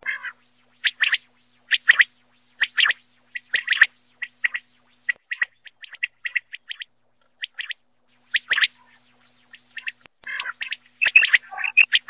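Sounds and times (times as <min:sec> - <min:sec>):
quail calling: 0:00.0 - 0:12.0.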